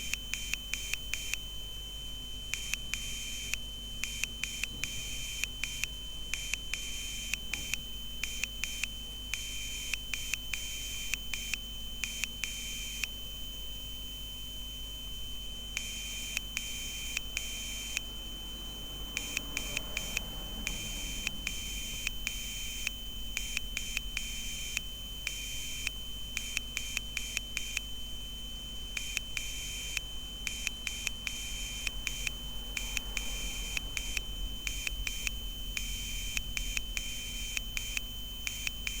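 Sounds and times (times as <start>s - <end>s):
morse code buzzer beeping: 0.0s - 39.0s.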